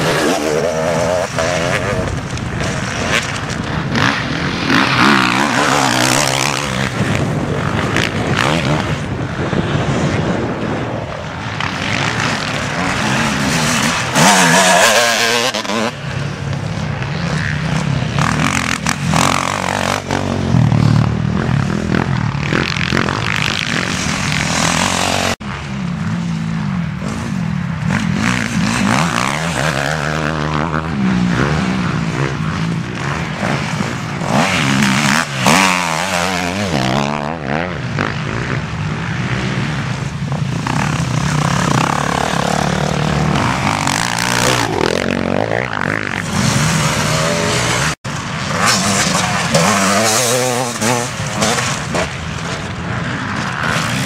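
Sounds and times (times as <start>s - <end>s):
dirt bikes revving past: 0.0s - 54.0s.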